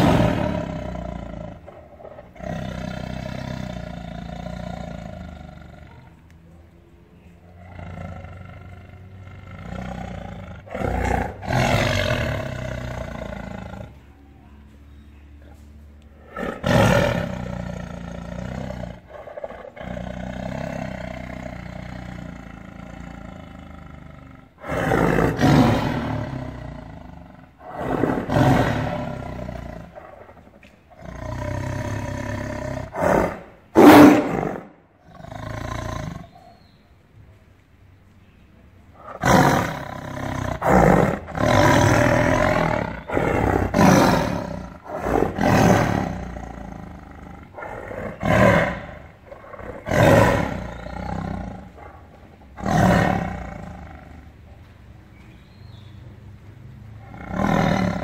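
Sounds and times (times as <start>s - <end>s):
tiger roaring and snarling: 0.0s - 6.2s, 7.4s - 14.1s, 15.5s - 36.6s, 38.9s - 54.4s, 56.6s - 58.0s.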